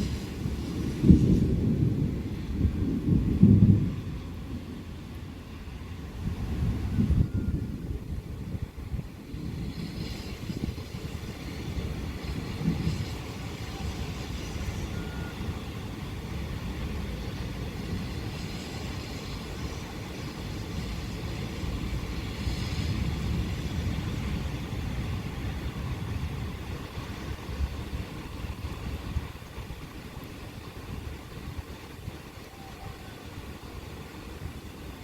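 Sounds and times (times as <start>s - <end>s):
distant thunder rumbling: 0.0s - 35.0s
rain falling: 0.0s - 35.0s.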